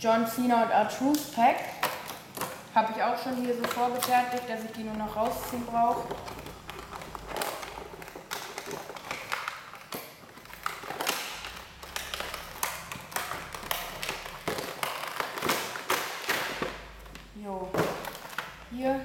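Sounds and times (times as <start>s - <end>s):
plastic and cardboard packaging handled: 0.9s - 19.0s.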